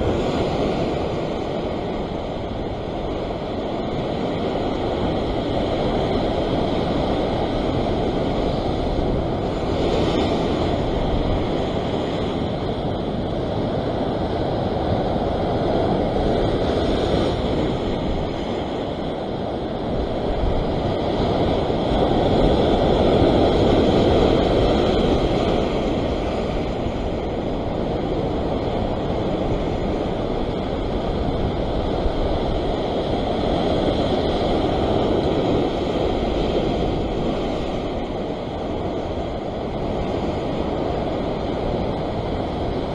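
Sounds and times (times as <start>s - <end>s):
surf washing over rocks: 0.0s - 42.9s
wind buffeting microphone: 0.0s - 42.9s.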